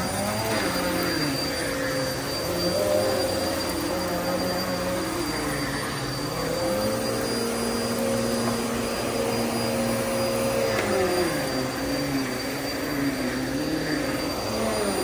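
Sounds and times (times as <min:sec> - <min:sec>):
vacuum cleaner motor drone: 0:00.0 - 0:15.0.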